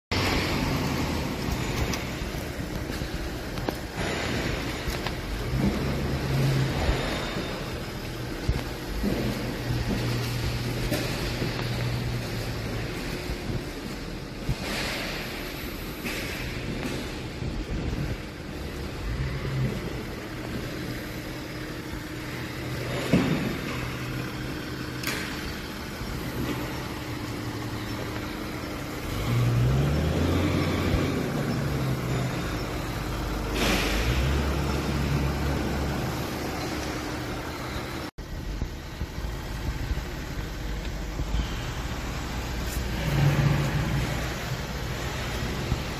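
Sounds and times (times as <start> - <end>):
vehicle engine humming: 0.0 - 45.9.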